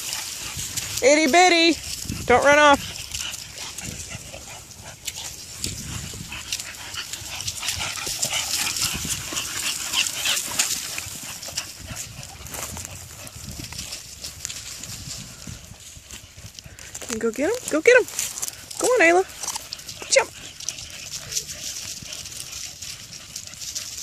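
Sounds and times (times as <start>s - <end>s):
footsteps crunching through dry leaves: 1.8s - 24.0s.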